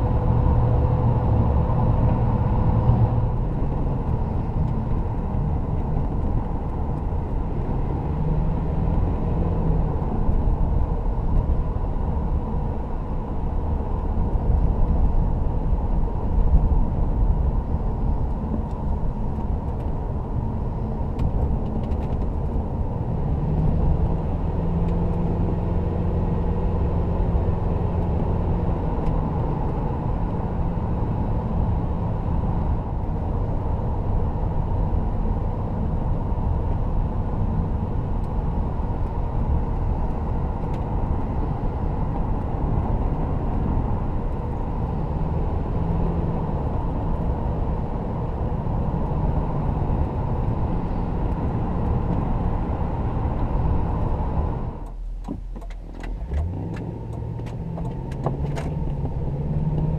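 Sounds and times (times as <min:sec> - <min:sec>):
car engine cruising: 0:00.0 - 0:59.9
road and tyre noise: 0:00.0 - 0:59.9.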